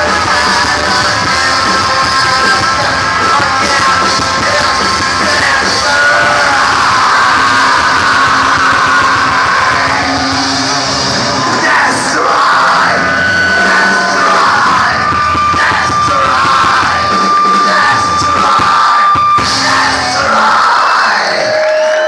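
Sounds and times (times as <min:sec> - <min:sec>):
punk rock band playing live: 0:00.0 - 0:22.0.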